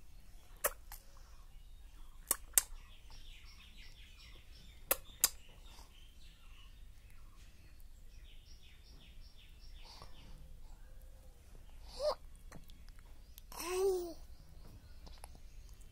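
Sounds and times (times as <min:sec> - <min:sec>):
birds chirping: 0:00.0 - 0:15.9.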